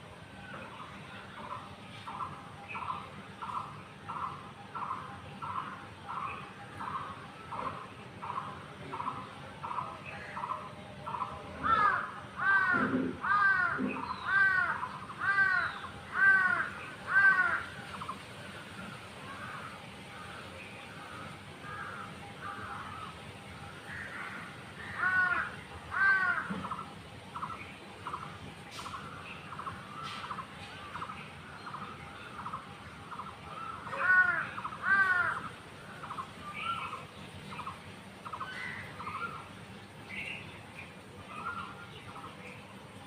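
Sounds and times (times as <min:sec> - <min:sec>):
birds chirping: 0:00.4 - 0:43.0
loud harsh bird calls: 0:01.4 - 0:18.4, 0:19.0 - 0:42.4.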